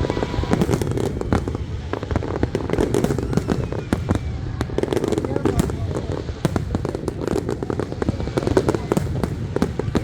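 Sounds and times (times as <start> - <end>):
fireworks bangs and crackles: 0.0 - 10.0
rumble of distant fireworks: 0.0 - 10.0.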